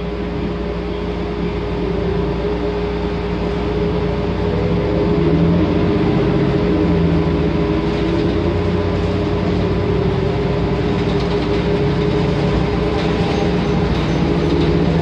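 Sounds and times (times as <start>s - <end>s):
bus engine running steadily: 0.0s - 15.0s.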